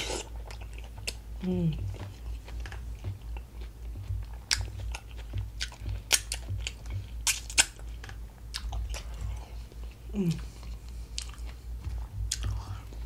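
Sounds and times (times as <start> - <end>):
close-up chewing: 0.0 - 13.0.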